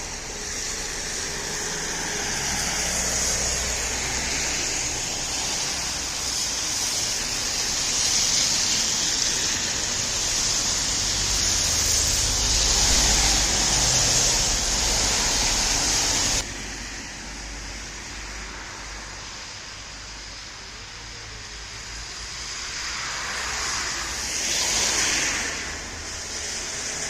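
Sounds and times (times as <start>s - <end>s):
road traffic hiss and rumble: 0.0s - 27.0s.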